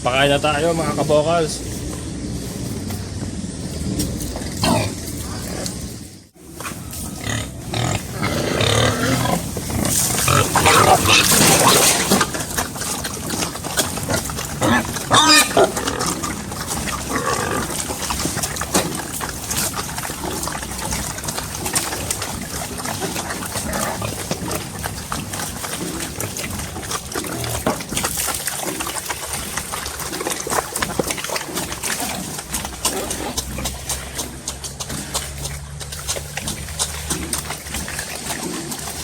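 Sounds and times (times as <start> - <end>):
pigs grunting and squealing: 0.0 - 39.0
pigs munching and slurping: 0.0 - 39.0.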